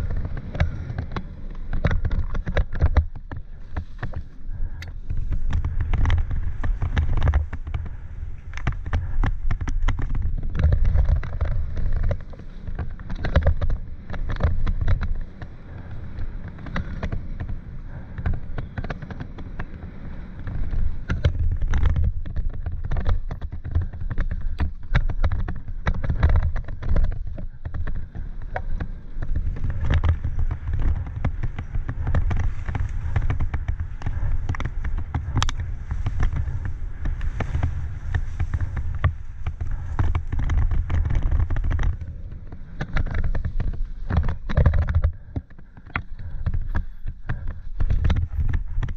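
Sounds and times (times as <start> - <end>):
bike clicks and rattles: 0.0 - 48.9
low rumble of bike riding: 0.0 - 48.9.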